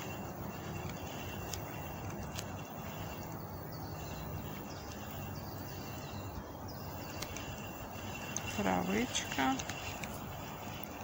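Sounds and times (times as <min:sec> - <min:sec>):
high insect-like whine: 0:00.0 - 0:11.0
sharp ticks: 0:00.0 - 0:11.0
small birds chirping: 0:00.0 - 0:11.0.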